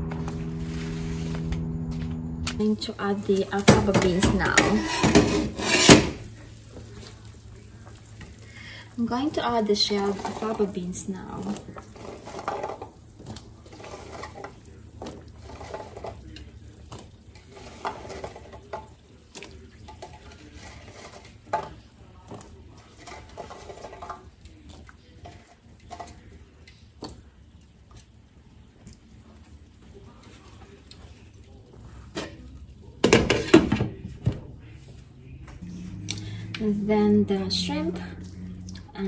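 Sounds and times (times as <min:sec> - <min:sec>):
broth simmering in a pot: 0:02.6 - 0:39.0.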